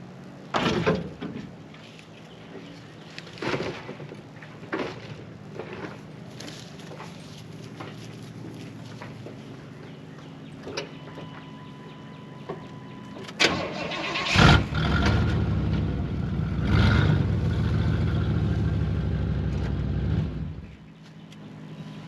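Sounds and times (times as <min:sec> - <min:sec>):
low steady hum: 0:00.0 - 0:22.0
vehicle engine running: 0:00.0 - 0:22.0.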